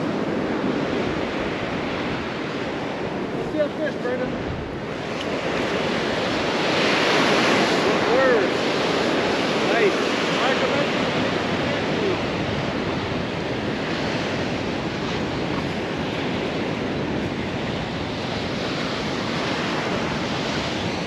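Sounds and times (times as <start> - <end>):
surf washing onto beach: 0.0 - 21.0
wind on microphone: 0.0 - 21.0.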